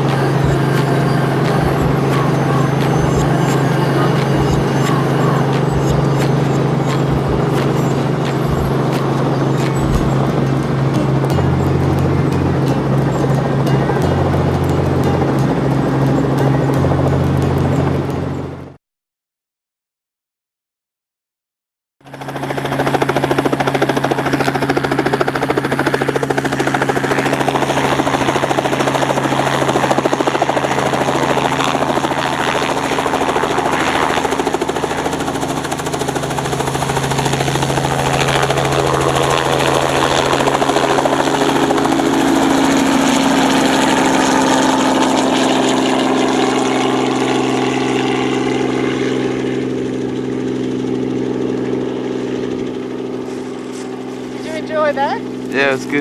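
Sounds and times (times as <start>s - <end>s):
helicopter engine and rotors: 0.0s - 18.8s, 22.0s - 56.0s.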